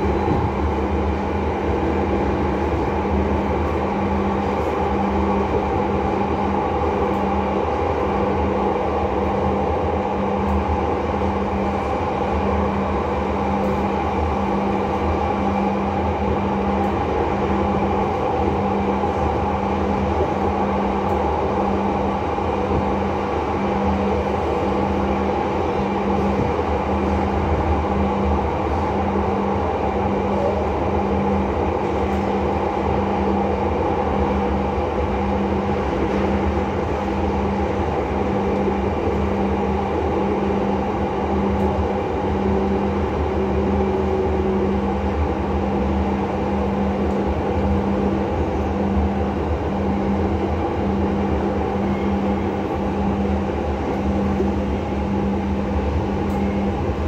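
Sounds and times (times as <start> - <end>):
pulsing low hum: 0.0 - 57.0
train wheels rumbling: 0.0 - 57.0.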